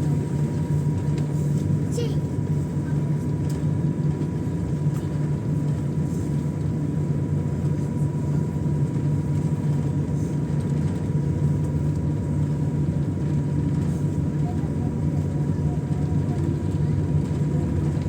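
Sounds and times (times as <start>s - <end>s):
airliner cabin hum: 0.0s - 18.0s.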